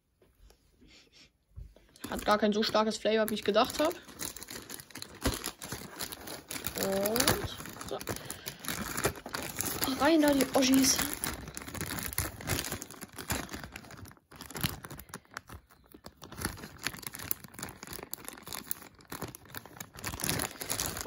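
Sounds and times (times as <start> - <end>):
plastic bag crinkling: 2.0 - 21.0.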